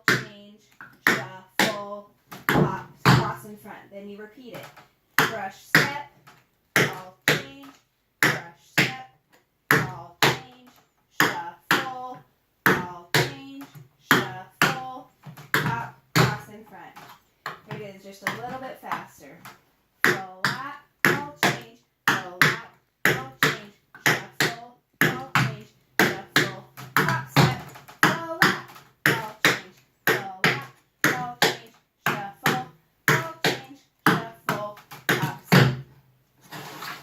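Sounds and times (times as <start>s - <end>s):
tap shoes on hard floor: 0.0s - 3.8s, 4.4s - 9.0s, 9.7s - 10.5s, 12.6s - 35.9s.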